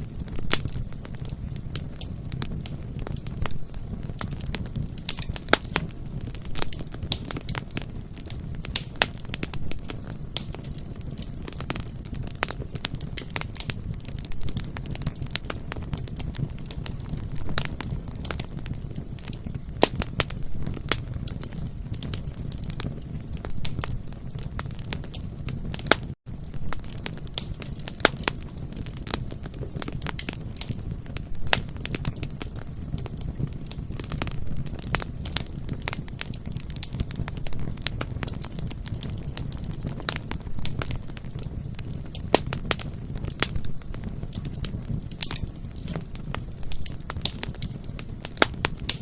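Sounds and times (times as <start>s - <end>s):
bonfire crackling: 0.0s - 49.0s.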